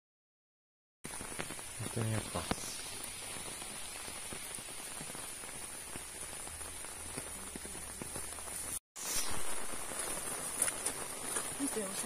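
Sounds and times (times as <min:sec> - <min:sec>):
rain pattering: 0:01.0 - 0:12.0.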